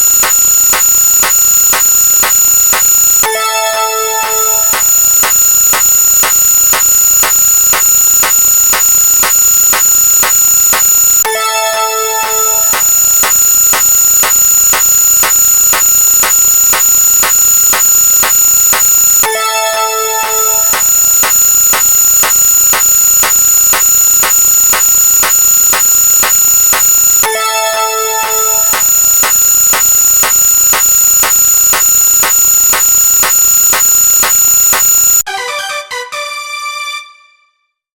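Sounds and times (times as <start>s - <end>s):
high-pitched electronic alarm tone: 0.0s - 35.3s
sharp electronic clicks: 0.0s - 35.3s.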